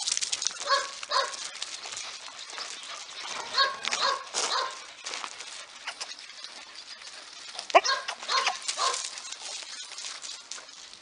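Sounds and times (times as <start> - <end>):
dogs barking: 0.4 - 9.6.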